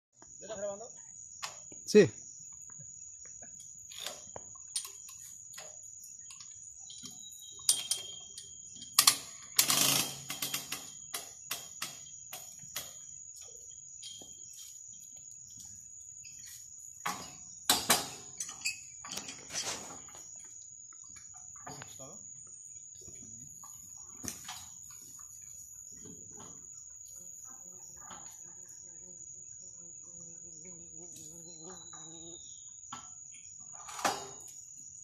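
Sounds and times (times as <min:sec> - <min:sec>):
high-pitched insect trill: 0:00.2 - 0:35.0.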